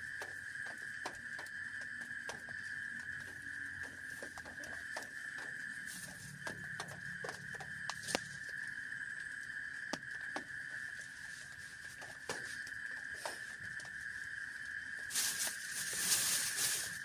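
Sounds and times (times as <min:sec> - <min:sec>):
raindrops pattering on a tent: 0:00.0 - 0:17.0
steady high-pitched hum: 0:00.0 - 0:17.0.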